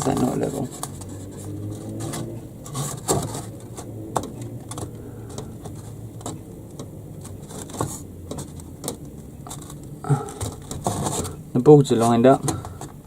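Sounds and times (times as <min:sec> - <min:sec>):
knocks and clicks handling wood: 0:00.0 - 0:13.0
steady low hum: 0:00.0 - 0:13.0.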